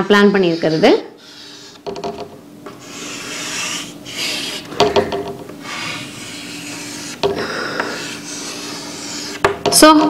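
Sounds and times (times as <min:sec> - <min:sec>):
chalk scraping on chalkboard: 0:00.0 - 0:04.8, 0:05.6 - 0:09.6.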